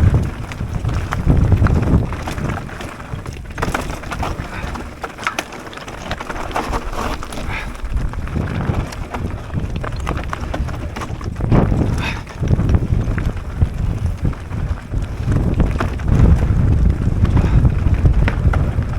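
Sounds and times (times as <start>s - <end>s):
bike rattling and knocking: 0.0s - 18.9s
bike tyres over roots and stones: 0.0s - 18.9s
wind rumble on microphone: 0.0s - 18.9s.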